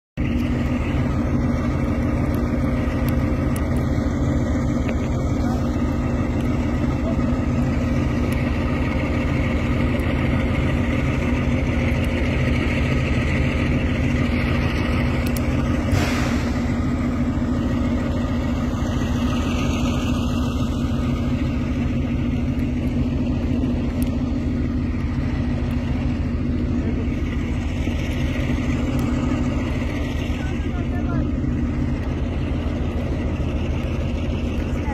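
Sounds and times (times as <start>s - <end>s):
train engine drone and rumble: 0.0s - 34.9s.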